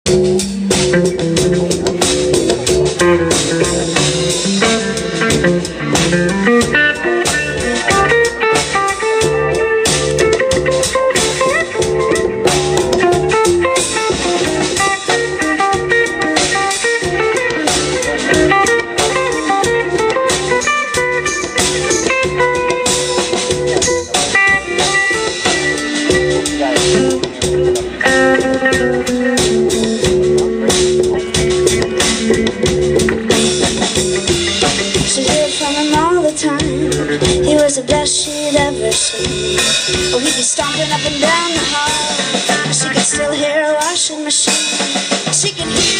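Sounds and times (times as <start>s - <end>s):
steady drum beat: 0.0s - 45.9s
electric guitar lines: 0.1s - 45.9s.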